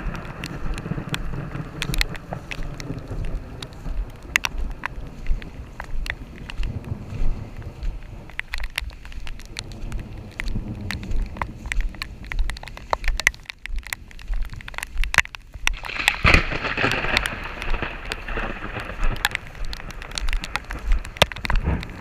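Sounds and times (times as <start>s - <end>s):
rain drops tapping: 0.0s - 22.0s.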